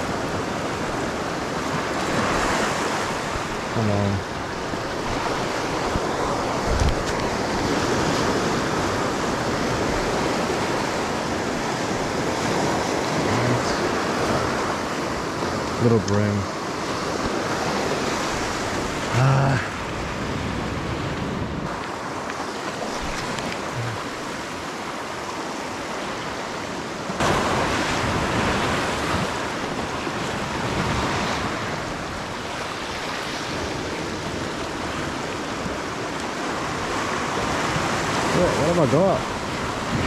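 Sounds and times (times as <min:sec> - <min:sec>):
waves surging over rocks: 0:00.0 - 0:40.0
wind buffeting microphone: 0:04.4 - 0:15.8, 0:16.6 - 0:25.2, 0:27.2 - 0:40.0.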